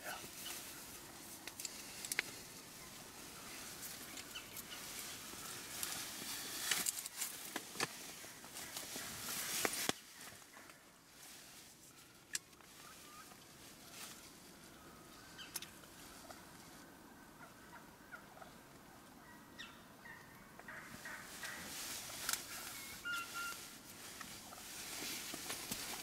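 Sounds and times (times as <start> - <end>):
wild turkey calls: 0.0 - 11.1, 11.9 - 25.9
rustle of movement: 0.0 - 19.2, 20.6 - 26.0.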